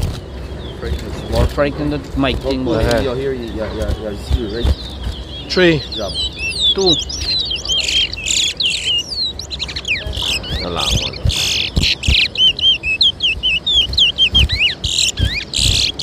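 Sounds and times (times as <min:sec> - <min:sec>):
finches singing: 0:00.0 - 0:16.0.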